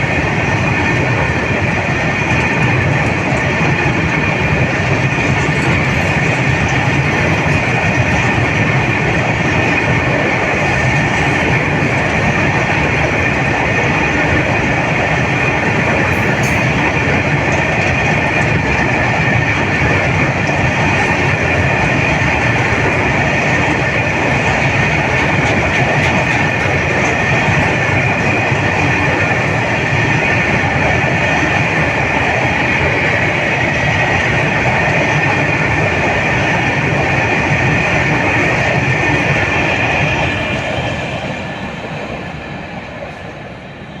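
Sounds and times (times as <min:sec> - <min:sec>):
clickety-clack over rail joints: 0:00.0 - 0:44.0
train wagons rolling on rails: 0:00.0 - 0:44.0.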